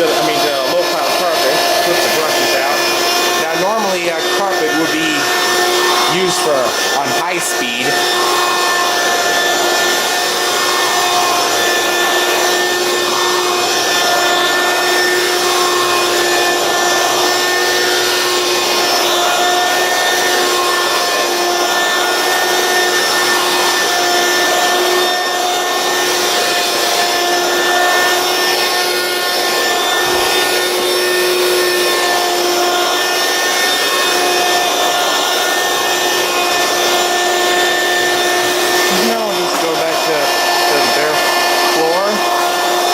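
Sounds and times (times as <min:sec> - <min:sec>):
cleaner head rubbing on floor: 0:00.0 - 0:42.9
stick vacuum motor whine: 0:00.0 - 0:42.9.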